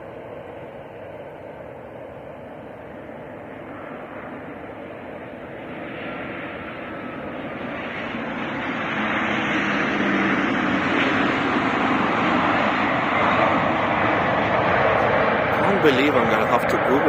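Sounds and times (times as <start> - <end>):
jet airliner engines landing: 0.0 - 17.0.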